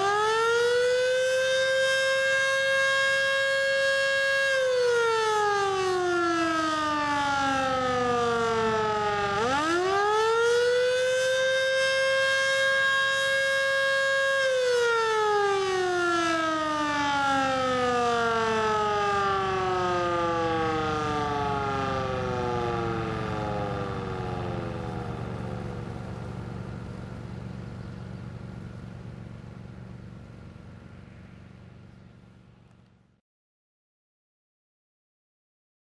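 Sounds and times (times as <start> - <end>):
warning siren wailing: 0.0 - 30.9.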